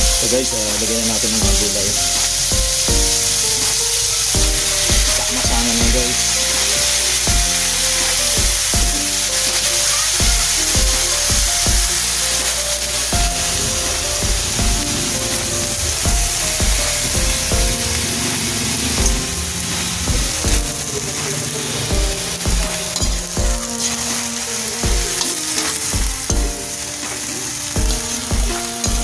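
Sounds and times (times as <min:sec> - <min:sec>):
background music with steady beat: 0:00.0 - 0:29.0
vegetables sizzling in a wok: 0:00.0 - 0:29.0.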